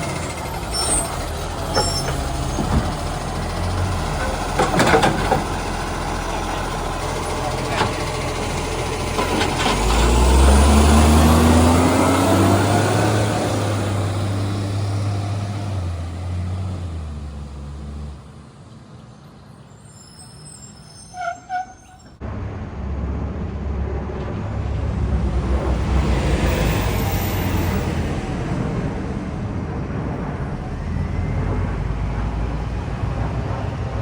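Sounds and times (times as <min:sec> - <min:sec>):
truck diesel engine revving: 0:00.0 - 0:18.4, 0:23.9 - 0:34.0.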